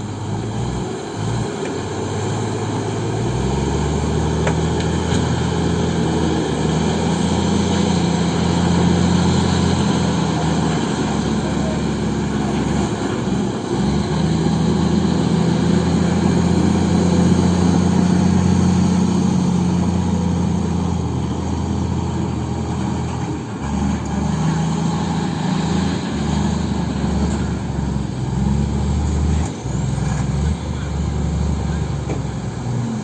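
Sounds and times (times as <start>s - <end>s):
heavy diesel engine under load: 0.0s - 33.0s.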